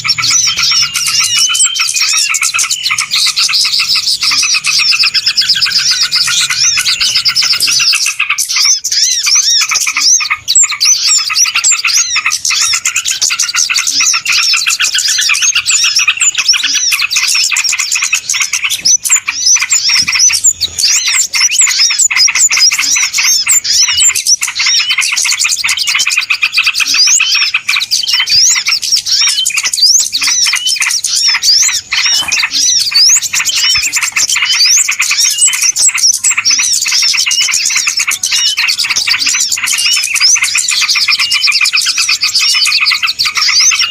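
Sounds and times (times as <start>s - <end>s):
many small birds chirping: 0.0s - 43.9s.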